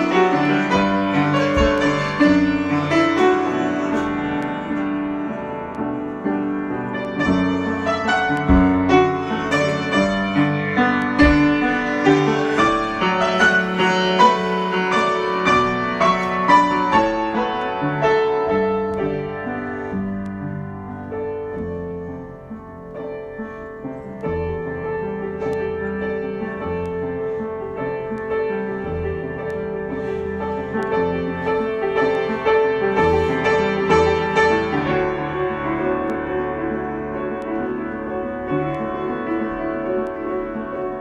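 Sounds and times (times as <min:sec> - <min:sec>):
piano improvisation: 0:00.0 - 0:41.0.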